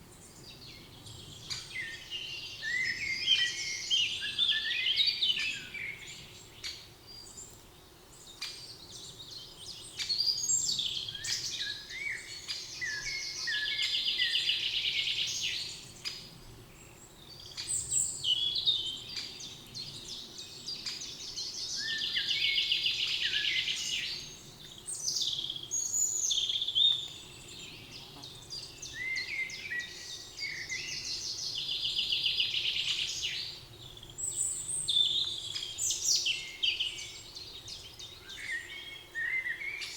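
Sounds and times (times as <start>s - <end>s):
songbirds chirping and whistling: 0.1s - 39.9s.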